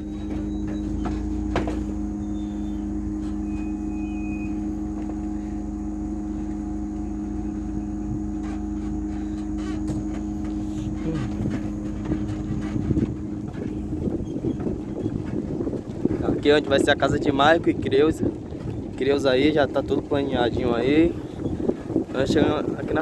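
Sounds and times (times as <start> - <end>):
car engine droning: 0.0 - 23.0.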